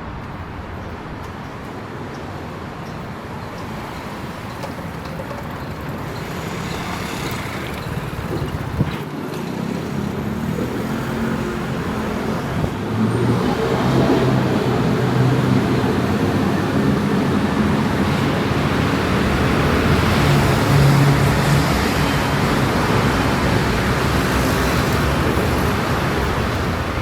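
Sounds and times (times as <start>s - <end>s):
traffic on wet roads: 1.6s - 27.0s.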